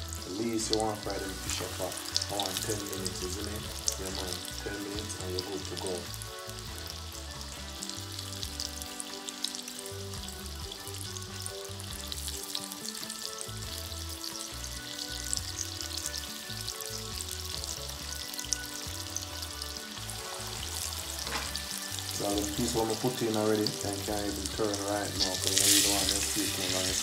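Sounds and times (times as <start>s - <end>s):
background music with bass line: 0.0s - 27.0s
fish deep-frying in oil: 0.0s - 27.0s.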